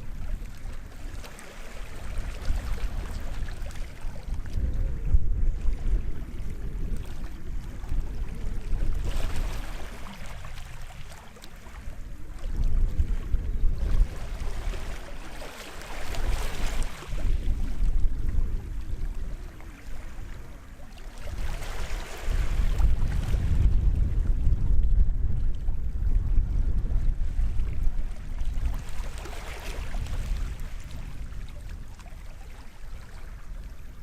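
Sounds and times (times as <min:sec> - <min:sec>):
small waves washing on shore: 0:00.0 - 0:34.0
wind rumbling on microphone: 0:00.0 - 0:34.0.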